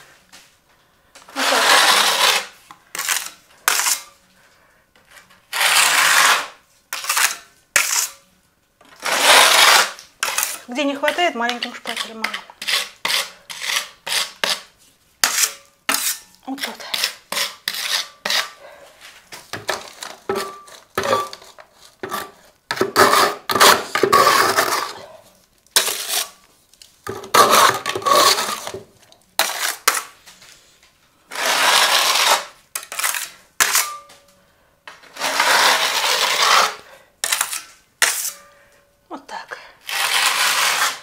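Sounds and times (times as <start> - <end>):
blade scraping plaster on wall: 1.3 - 4.2, 5.0 - 18.6, 19.6 - 25.2, 25.8 - 26.4, 27.1 - 30.2, 31.3 - 34.0, 34.9 - 38.5, 39.8 - 41.0.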